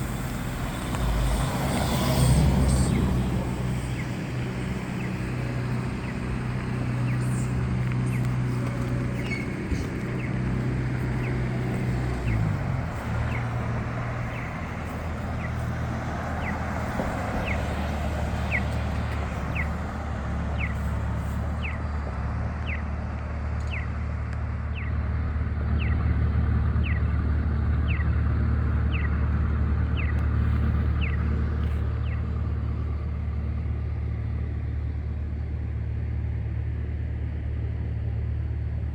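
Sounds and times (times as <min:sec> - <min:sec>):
large vehicle engine humming: 0:00.0 - 0:38.9.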